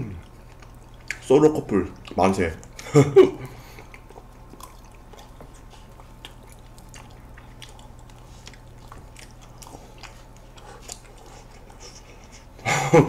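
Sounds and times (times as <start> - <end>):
mouth smacks and clicks eating: 0.0 - 2.8, 3.6 - 12.5
steady low hum: 0.0 - 13.0.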